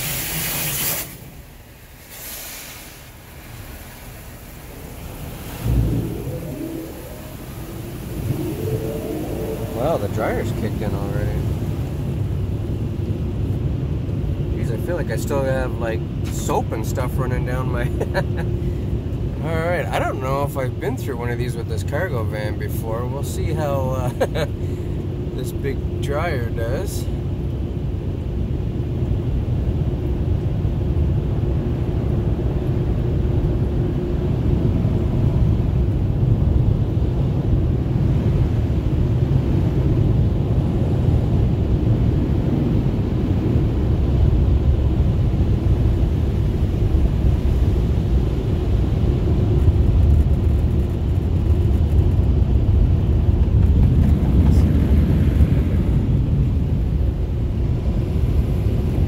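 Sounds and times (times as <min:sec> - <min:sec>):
car wash blower rushing air: 0:00.0 - 0:21.0, 0:23.2 - 0:59.0.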